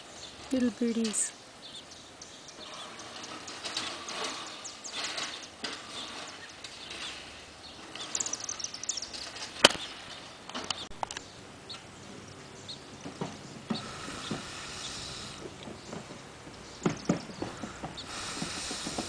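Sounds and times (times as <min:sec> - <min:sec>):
ivy leaves rustling: 0:00.0 - 0:19.0
nestlings chirping: 0:00.0 - 0:19.0.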